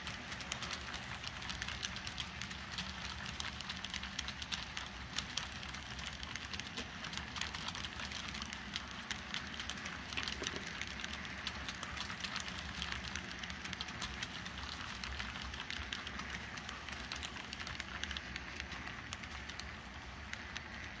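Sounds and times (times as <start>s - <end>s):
low steady hum: 0.0s - 21.0s
model train cars rattling on track: 0.0s - 21.0s.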